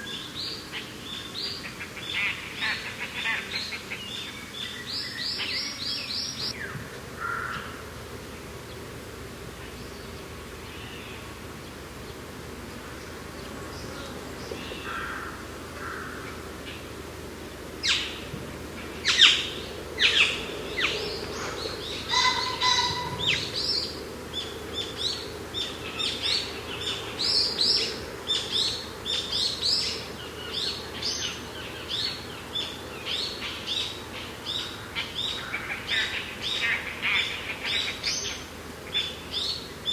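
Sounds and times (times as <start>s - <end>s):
birds chirping: 0.0s - 6.8s, 9.6s - 39.9s
wind: 0.0s - 39.9s.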